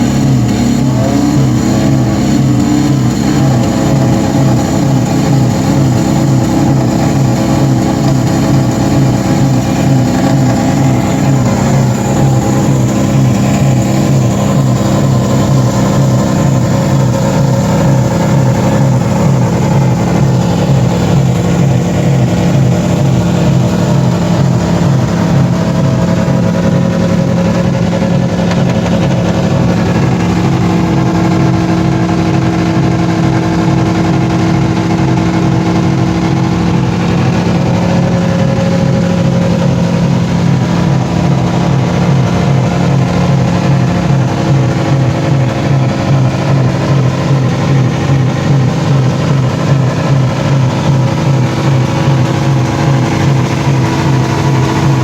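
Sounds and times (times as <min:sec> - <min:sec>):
car engines revving high: 0:00.0 - 0:55.0.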